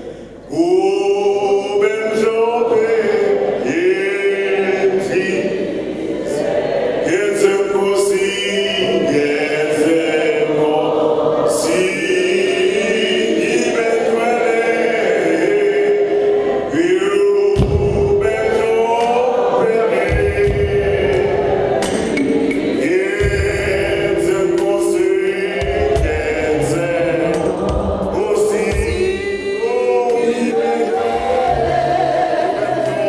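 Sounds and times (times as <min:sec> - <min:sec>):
man singing a hymn into a microphone: 0:00.0 - 0:05.7, 0:07.0 - 0:21.5, 0:22.7 - 0:33.0
voices holding long notes: 0:00.0 - 0:33.0.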